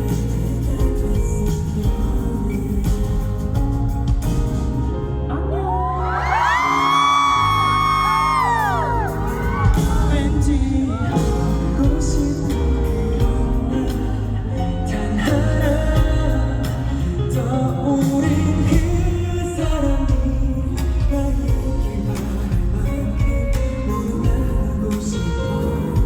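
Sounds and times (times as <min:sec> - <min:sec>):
man singing pop ballad with band: 0:00.0 - 0:26.0.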